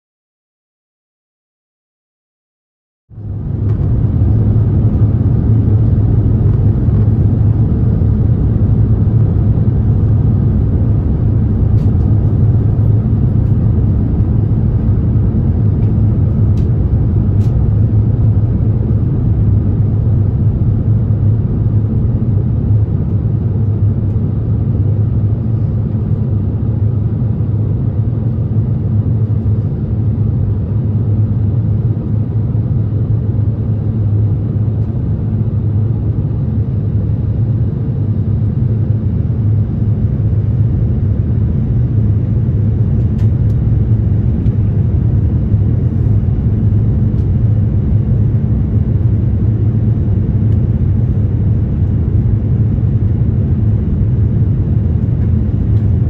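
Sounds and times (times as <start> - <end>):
airplane cabin rumble: 3.1 - 56.0.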